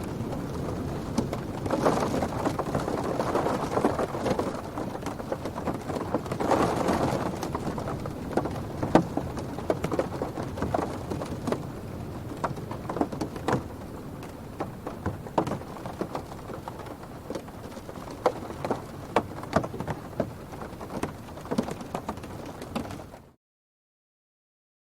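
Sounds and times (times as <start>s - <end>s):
wind rushing against car: 0.0s - 23.2s
heavy raindrops tapping: 0.0s - 23.3s
rain on car roof: 0.0s - 23.4s.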